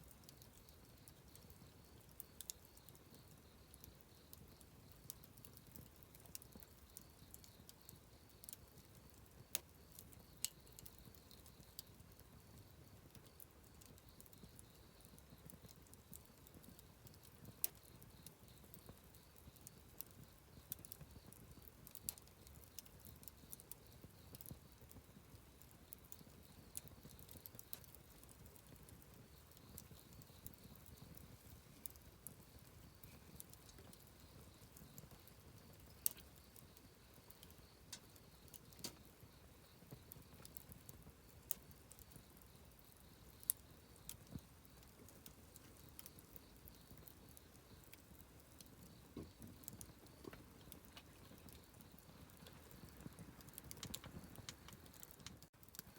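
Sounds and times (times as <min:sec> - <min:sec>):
campfire crackling and popping: 0:00.0 - 0:55.9
low rustle of burning: 0:00.0 - 0:55.9.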